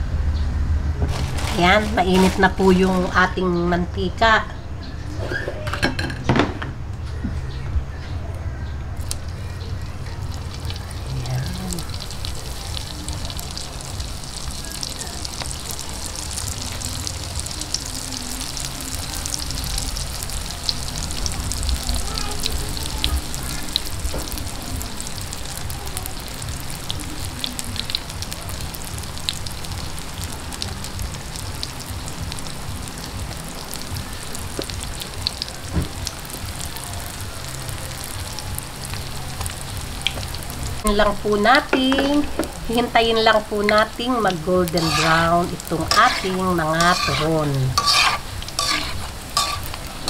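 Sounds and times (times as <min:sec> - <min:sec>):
spring rolls sizzling in hot oil: 0:09.0 - 0:50.0.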